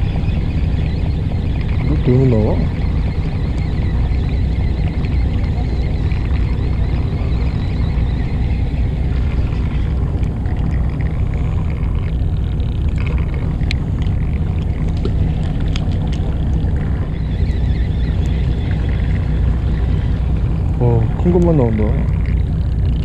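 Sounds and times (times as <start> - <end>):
boat engine droning: 0.0 - 23.0
faint ticks: 2.6 - 23.0.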